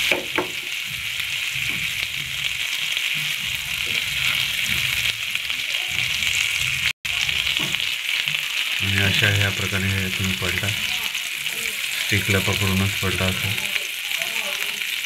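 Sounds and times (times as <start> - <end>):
prawns sizzling in hot oil: 0.0 - 15.0.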